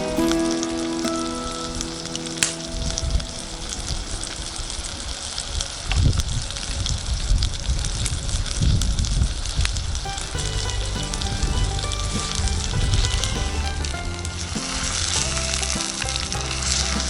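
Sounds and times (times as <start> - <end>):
low rumbles: 0.0 - 17.0.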